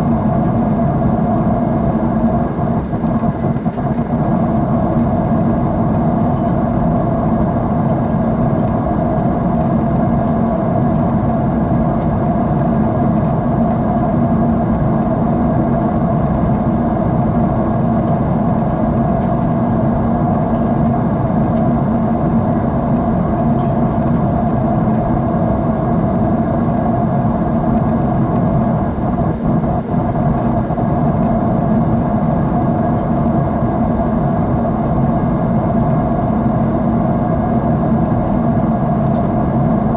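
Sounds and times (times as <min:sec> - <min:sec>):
airliner cabin engine drone: 0:00.0 - 0:39.9
faint steady hum: 0:00.0 - 0:39.9.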